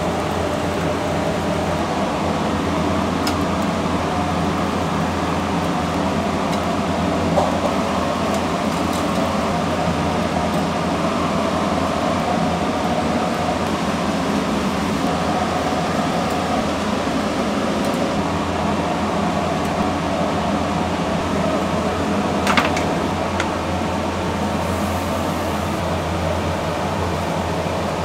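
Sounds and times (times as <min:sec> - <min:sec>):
ventilation fan humming: 0:00.0 - 0:28.0.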